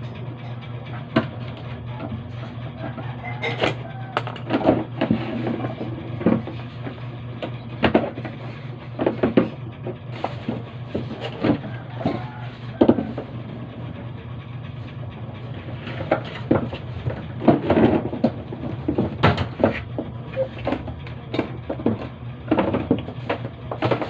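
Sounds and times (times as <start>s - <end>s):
tools and parts clattering: 0.0s - 13.4s, 15.6s - 24.0s
steady low hum: 0.0s - 24.0s.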